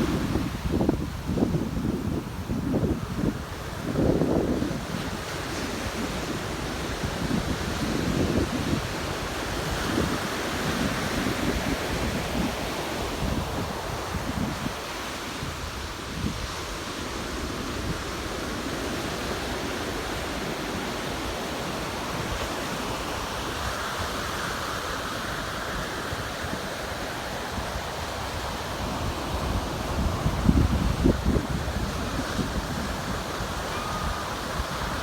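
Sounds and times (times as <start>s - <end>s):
ocean surf breaking on beach: 0.0s - 35.0s
wind gusting on microphone: 0.0s - 35.0s.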